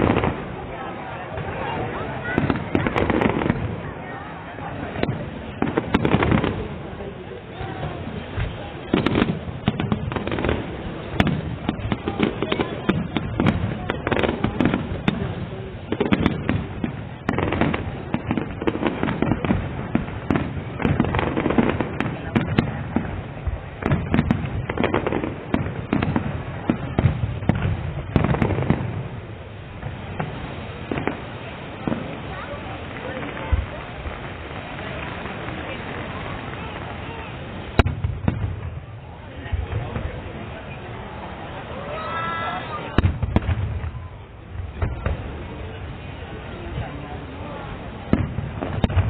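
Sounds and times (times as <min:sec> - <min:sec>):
fireworks cracks and bangs: 0:00.0 - 0:49.0.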